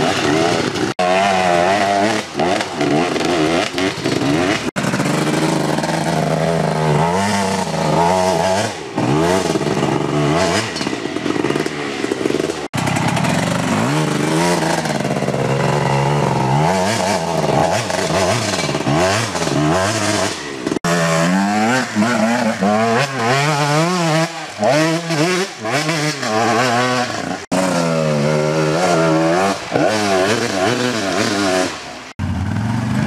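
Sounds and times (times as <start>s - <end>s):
dirt bike engines revving: 0.0s - 33.0s.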